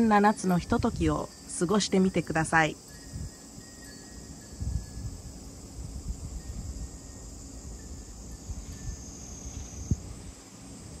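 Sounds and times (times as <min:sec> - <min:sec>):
glass wind chimes tinkling: 0:00.0 - 0:10.1
cicadas droning: 0:00.0 - 0:11.0
wind rumbling on microphone: 0:00.0 - 0:11.0.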